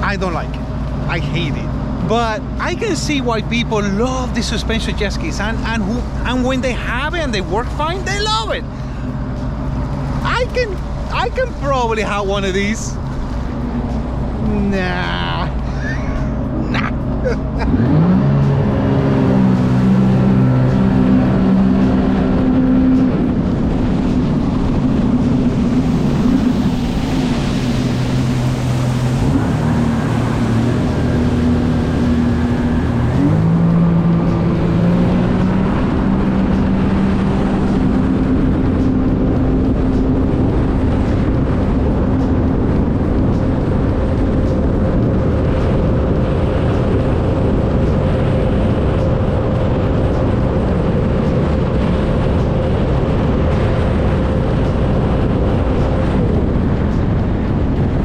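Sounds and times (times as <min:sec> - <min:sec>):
constant rushing noise: 0:00.0 - 0:58.0
personal watercraft engine running: 0:00.0 - 0:58.0.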